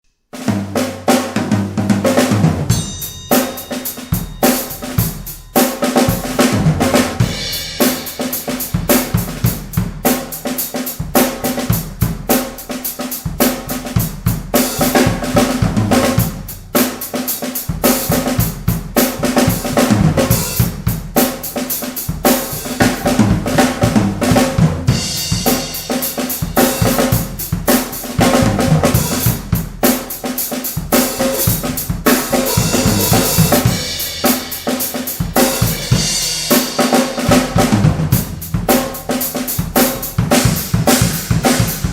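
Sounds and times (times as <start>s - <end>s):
drum kit playing beats and fills: 0.0s - 41.9s.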